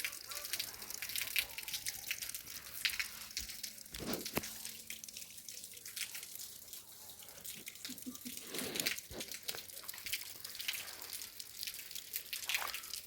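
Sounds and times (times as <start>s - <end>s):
water splashing and dripping: 0.0s - 13.0s.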